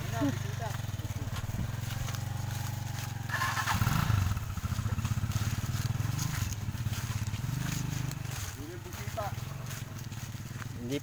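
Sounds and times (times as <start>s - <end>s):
small motorcycle engine idling: 0.0s - 11.0s.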